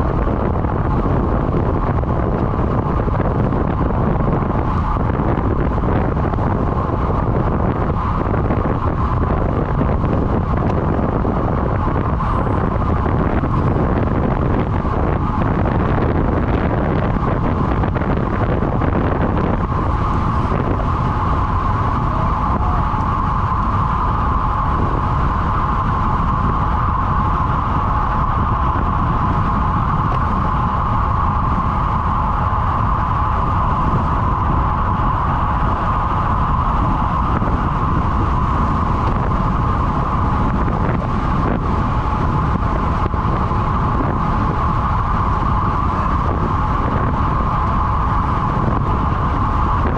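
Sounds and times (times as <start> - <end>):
constant whine: 0.0 - 49.9
wind rush on microphone: 0.0 - 49.9.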